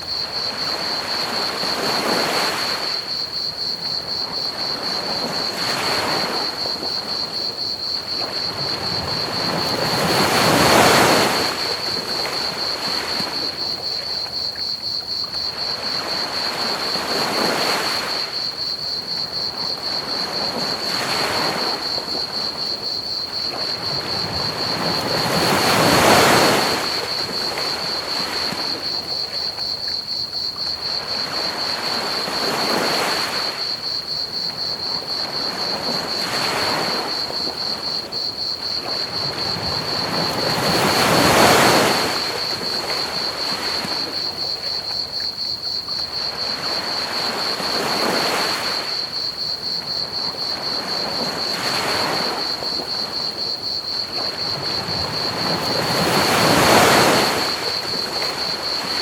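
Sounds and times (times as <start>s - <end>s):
crickets chirping: 0.0s - 59.0s
ocean waves washing onto beach: 0.0s - 59.0s.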